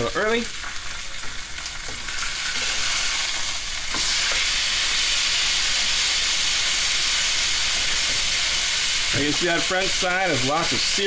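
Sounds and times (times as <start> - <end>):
steak sizzling in a frying pan: 0.0 - 11.0.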